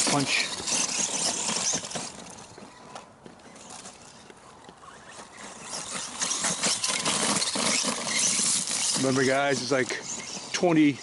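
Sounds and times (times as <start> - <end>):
rc truck electric motor: 0.0 - 11.0.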